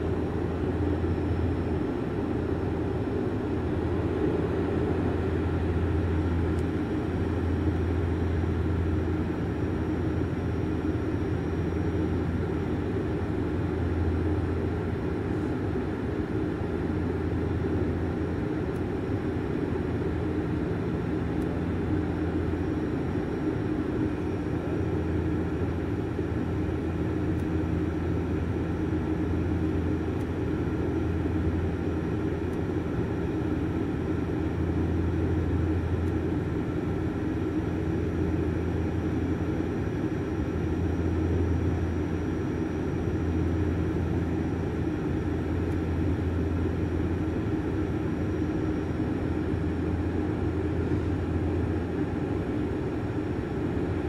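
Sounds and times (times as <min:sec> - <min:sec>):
turboprop cabin drone: 0:00.0 - 0:54.0.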